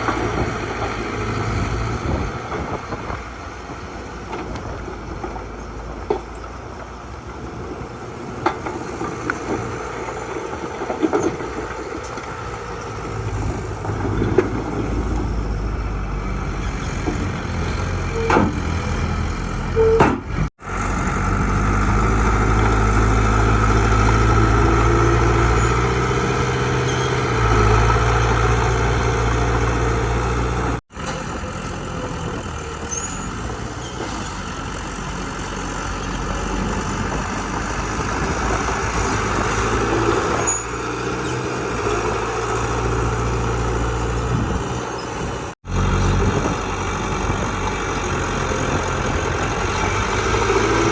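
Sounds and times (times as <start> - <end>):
heavy machinery diesel engine: 0.0 - 50.9.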